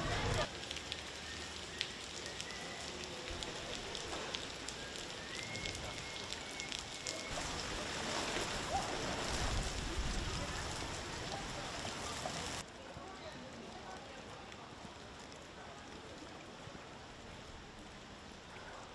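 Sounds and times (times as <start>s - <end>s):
heavy rain on standing water: 0.0s - 18.9s
individual raindrops ticking: 0.0s - 18.9s.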